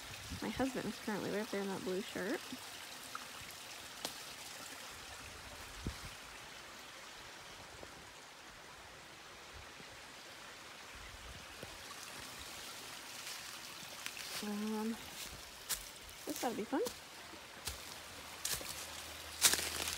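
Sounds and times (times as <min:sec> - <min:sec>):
stream trickling over stones: 0:00.0 - 0:19.9.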